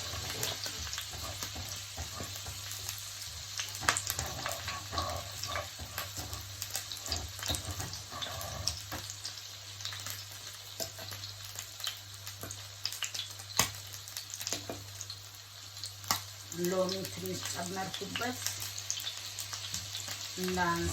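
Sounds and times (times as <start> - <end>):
fish sizzling in a pan: 0.0 - 20.9
oil crackling and popping: 0.0 - 20.9.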